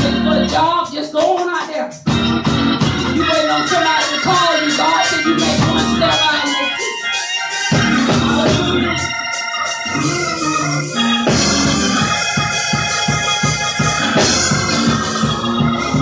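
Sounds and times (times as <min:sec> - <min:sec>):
bass line: 0:00.0 - 0:00.8, 0:02.1 - 0:06.6, 0:07.7 - 0:09.2, 0:09.9 - 0:16.0
electric organ chords: 0:00.0 - 0:00.9, 0:01.9 - 0:16.0.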